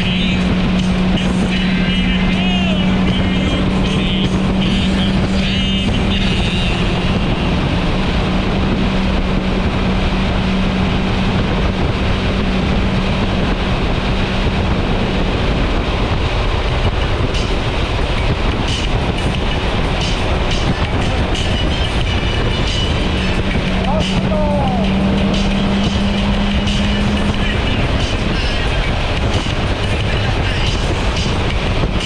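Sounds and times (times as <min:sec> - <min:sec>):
motorcycle engine drone: 0:00.0 - 0:32.0
wind and road noise: 0:00.0 - 0:32.0.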